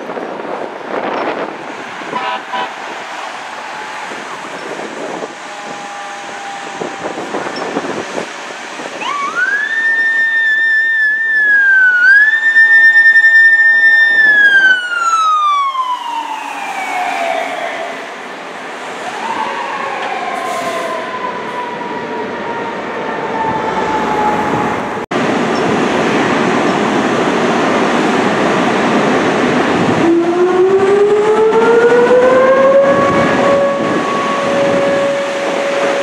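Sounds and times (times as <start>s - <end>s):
traffic noise: 0.0s - 36.0s
fire truck siren wailing: 0.2s - 25.4s, 27.8s - 36.0s.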